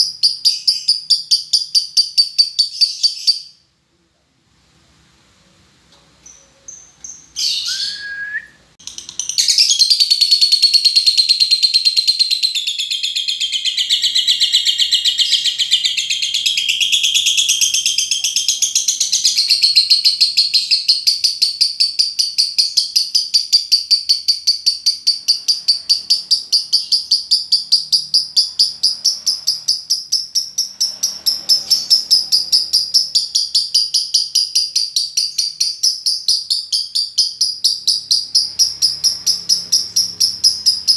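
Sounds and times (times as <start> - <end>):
lovebird high-pitched rapid chatter: 0.0 - 3.6, 8.8 - 40.9
lovebird chirps: 0.0 - 3.7, 6.2 - 40.9.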